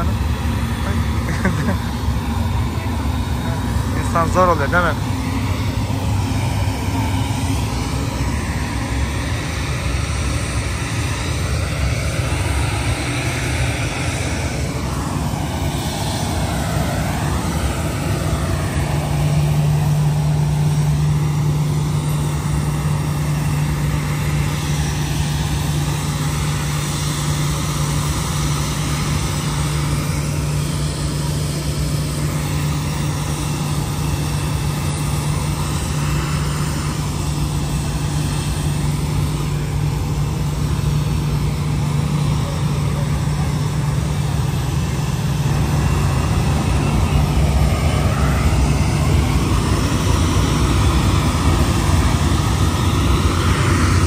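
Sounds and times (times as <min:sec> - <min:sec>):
steady low hum: 0:00.0 - 0:54.0
vehicle noise: 0:00.0 - 0:54.0
wavering whine: 0:00.0 - 0:54.0.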